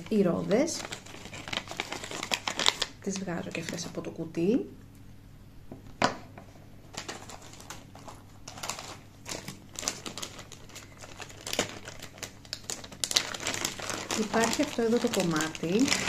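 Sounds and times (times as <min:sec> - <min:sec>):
plastic bag crinkling: 0:00.0 - 0:04.0, 0:06.9 - 0:16.0.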